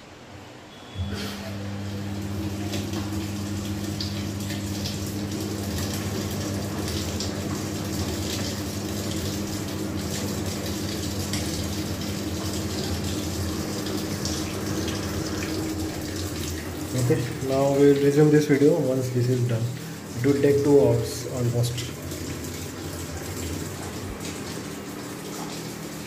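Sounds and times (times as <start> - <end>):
low machine hum: 0.0 - 26.0
water rushing into tub: 1.0 - 26.0.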